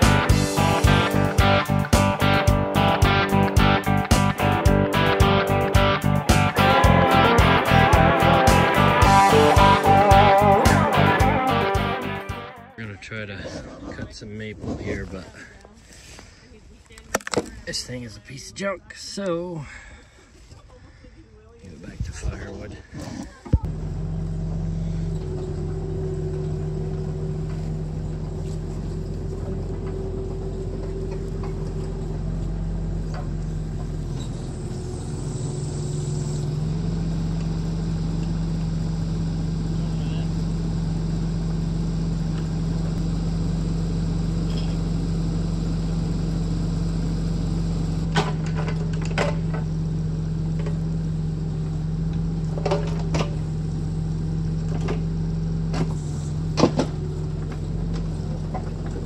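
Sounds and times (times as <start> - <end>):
engine running: 0.0 - 13.4, 21.7 - 59.0.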